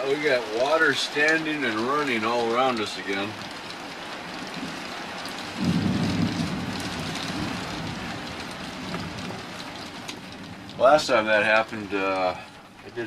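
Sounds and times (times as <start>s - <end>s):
heavy rain falling: 0.0s - 13.0s
thunder rumbling: 0.0s - 13.0s.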